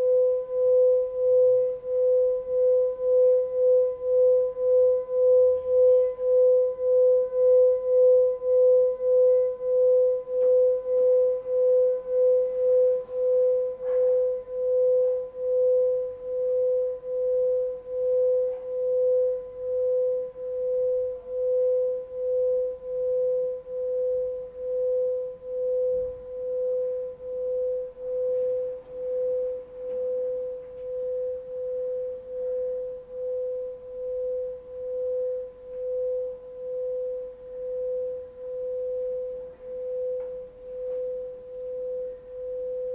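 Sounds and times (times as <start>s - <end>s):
singing bowl sustained tone: 0.0s - 42.9s.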